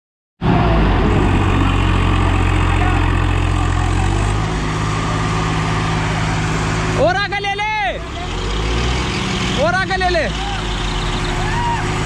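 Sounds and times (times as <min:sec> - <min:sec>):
diesel tractor engines idling: 0:00.4 - 0:12.0.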